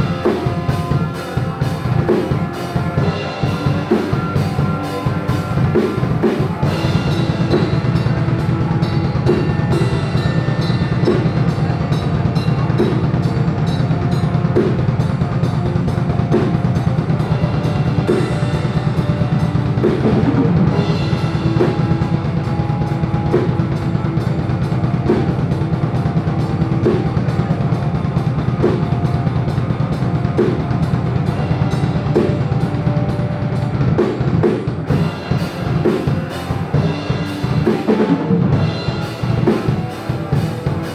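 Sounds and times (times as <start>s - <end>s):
bass guitar: 0.0s - 40.9s
distorted electric guitars: 0.0s - 40.9s
fast drum-kit playing: 0.0s - 40.9s.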